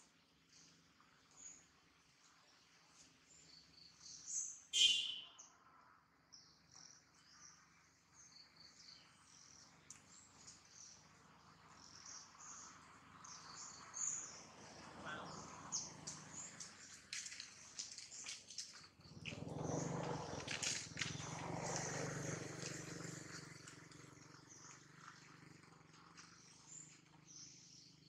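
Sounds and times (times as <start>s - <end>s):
birds chirping: 3.3s - 5.6s, 6.4s - 28.0s.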